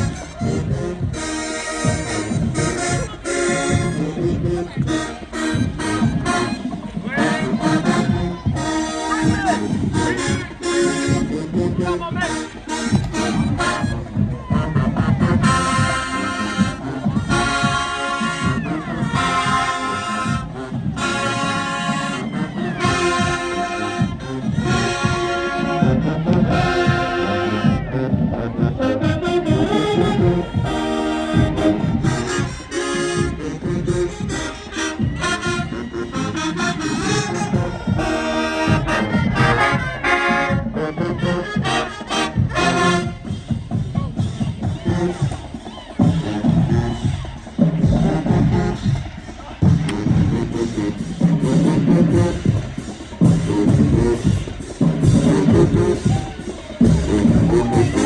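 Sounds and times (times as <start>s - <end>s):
brass section blasting chords: 0.0s - 58.0s
steady drum beat: 0.0s - 58.0s.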